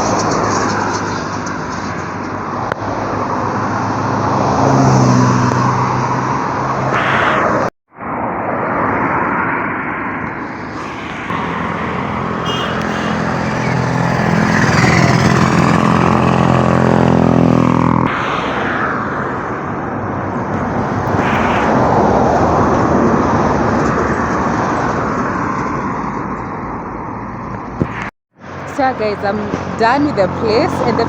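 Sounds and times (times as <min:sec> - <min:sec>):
traffic rumble: 0:00.0 - 0:31.0
vehicle engine hum: 0:00.0 - 0:31.0.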